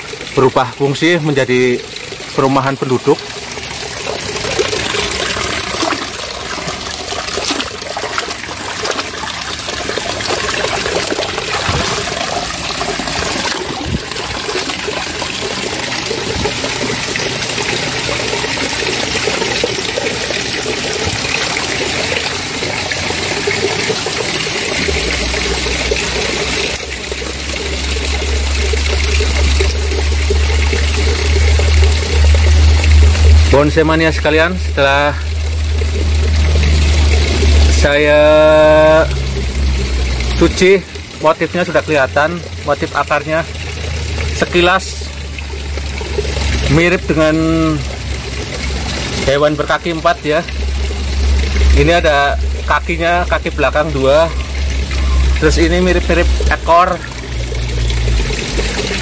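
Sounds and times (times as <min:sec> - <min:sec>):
water splashing over rocks: 0:00.0 - 0:59.0.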